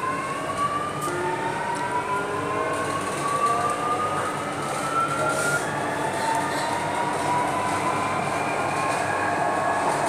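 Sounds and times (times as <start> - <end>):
train running noise: 0.0 - 10.0.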